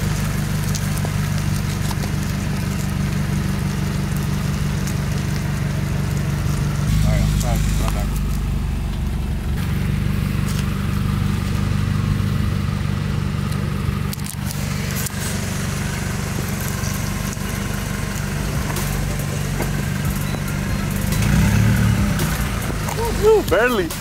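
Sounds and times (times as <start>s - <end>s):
car engine running at low speed: 0.0s - 24.0s.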